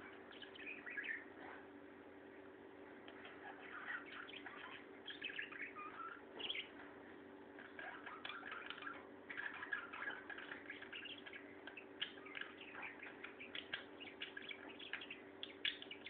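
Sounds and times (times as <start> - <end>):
parrots chirping: 0.0 - 1.7, 3.1 - 6.8, 7.4 - 16.0
steady low hum: 0.0 - 16.0.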